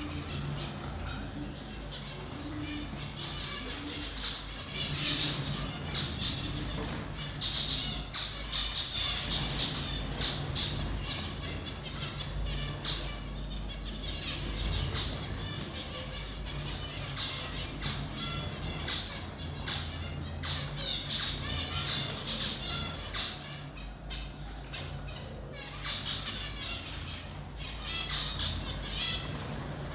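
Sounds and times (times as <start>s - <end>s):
cage birds chirping and squawking: 0.0s - 29.9s
low steady hum: 0.0s - 29.9s.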